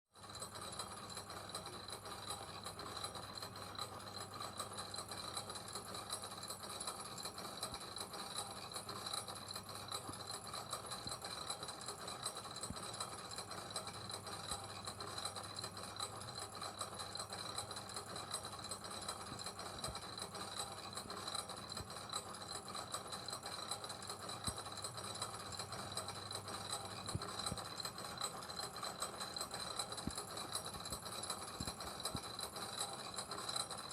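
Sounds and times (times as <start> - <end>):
gears turning with rapid clicking: 0.2 - 33.9.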